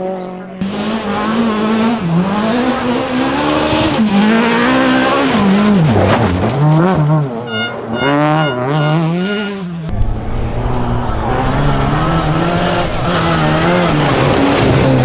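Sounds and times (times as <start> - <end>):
engine at high revs: 0.0 - 15.0
rally car engine revving: 0.0 - 15.0.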